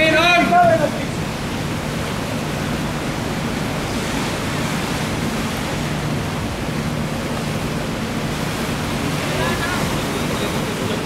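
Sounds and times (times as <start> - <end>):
sea swell rushing: 0.0 - 11.0.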